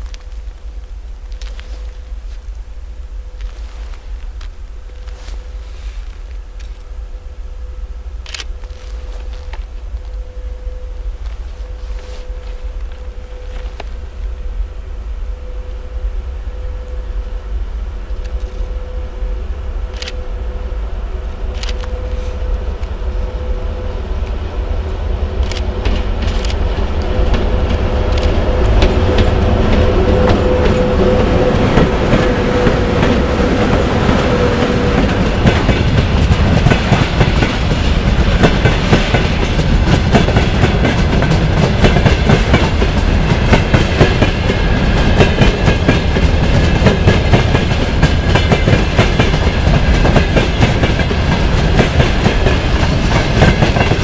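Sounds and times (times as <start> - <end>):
electric locomotive hum: 0.0 - 54.0.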